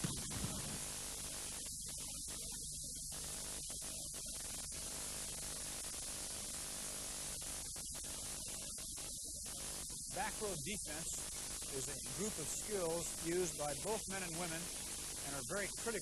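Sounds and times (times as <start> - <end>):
mains hum: 0.0 - 16.0
tape hiss: 0.0 - 16.0.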